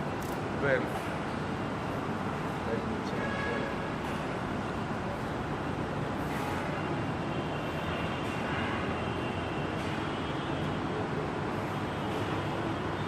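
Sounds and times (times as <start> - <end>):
workshop background rumble: 0.0 - 13.0.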